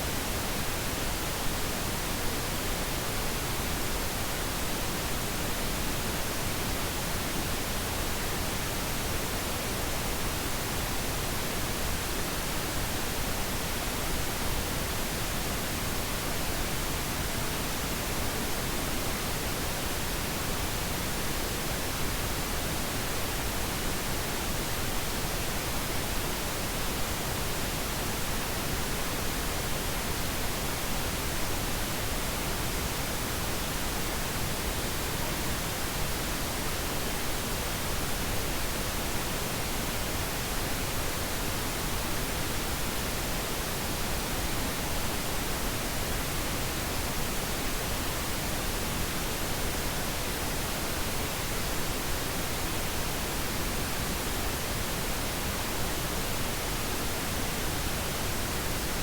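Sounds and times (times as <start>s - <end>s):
pink noise hiss: 0.0s - 59.0s.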